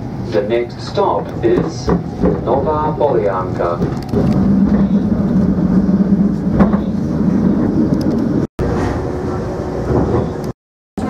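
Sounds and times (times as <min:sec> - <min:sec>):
electric railcar rumbling: 0:00.0 - 0:10.5.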